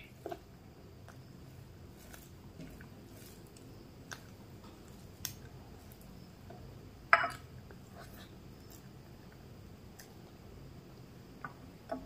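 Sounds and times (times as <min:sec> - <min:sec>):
fingers mixing rice: 0:00.0 - 0:11.0.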